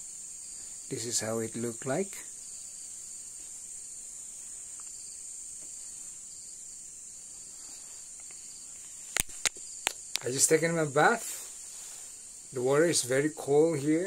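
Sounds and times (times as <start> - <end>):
crickets chirping: 0.0 - 14.0
lower insect trill: 0.0 - 14.0.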